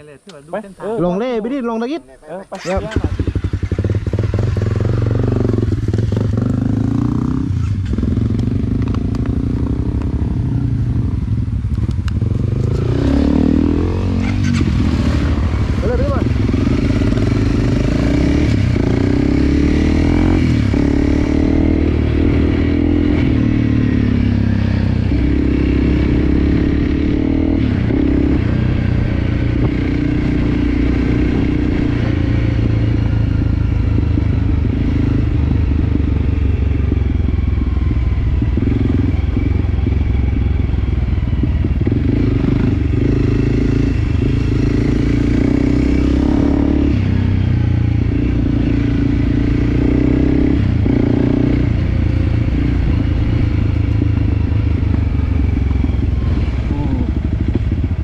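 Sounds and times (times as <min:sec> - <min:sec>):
dirt bike engine revving: 0:00.8 - 0:11.2, 0:12.2 - 0:37.4, 0:41.4 - 0:57.8.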